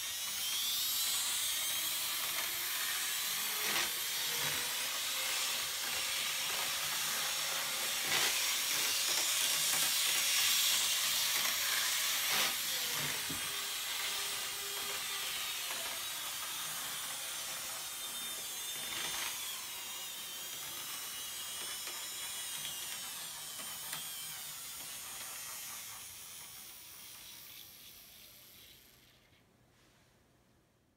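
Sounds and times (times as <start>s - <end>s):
model train motor whirring: 0.0s - 29.4s.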